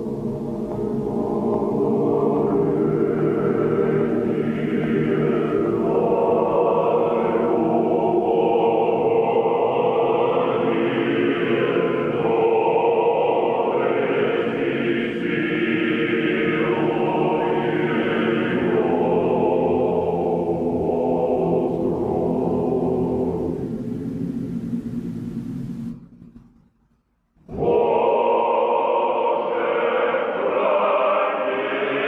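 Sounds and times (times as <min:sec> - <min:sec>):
choir singing a slow chant: 0:00.0 - 0:26.0, 0:27.5 - 0:32.0.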